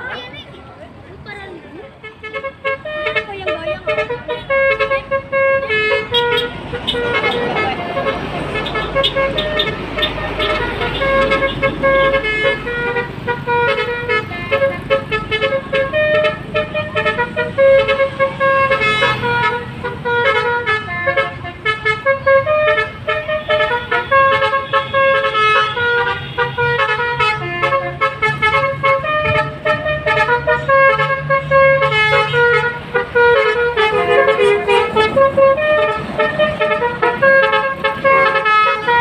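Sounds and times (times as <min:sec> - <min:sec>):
bus air horns playing a tune: 0:02.0 - 0:39.0.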